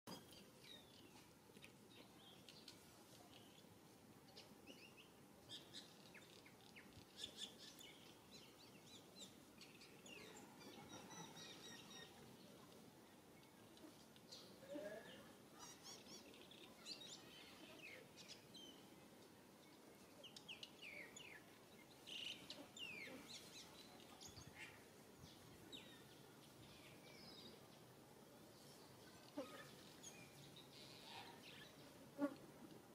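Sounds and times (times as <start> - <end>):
low steady hiss: 0.1 - 32.9.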